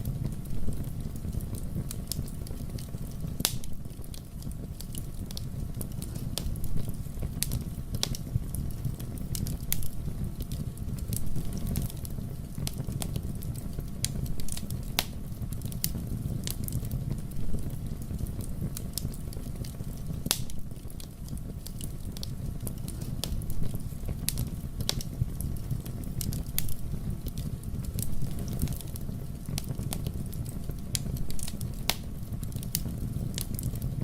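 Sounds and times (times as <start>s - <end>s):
fire crackles and pops: 0.0s - 34.0s
fire flames rumbling: 0.0s - 34.0s.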